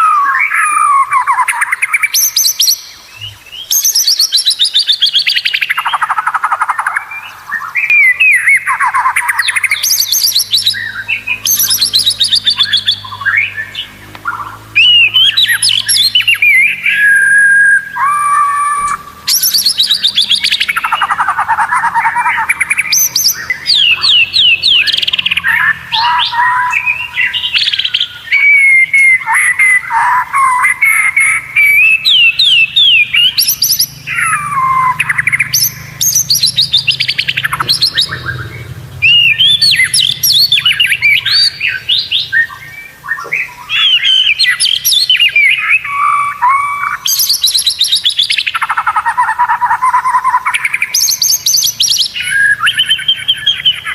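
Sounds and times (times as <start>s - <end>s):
bird singing whistles and trills: 0.0s - 53.9s.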